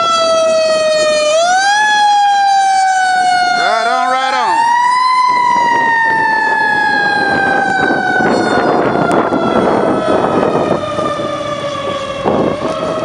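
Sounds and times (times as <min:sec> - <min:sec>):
mechanical siren winding down: 0:00.0 - 0:13.0
truck road noise: 0:00.0 - 0:13.0.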